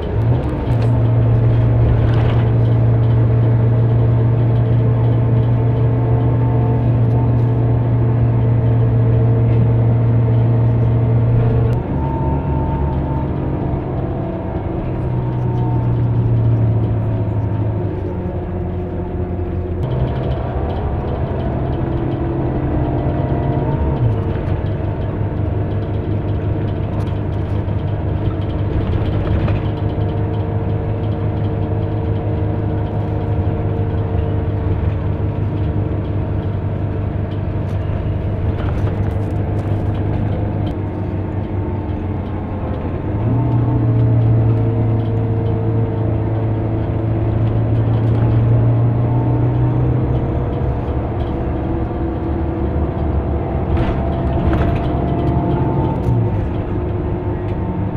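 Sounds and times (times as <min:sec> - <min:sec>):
vehicle interior running hum: 0:00.0 - 0:57.9.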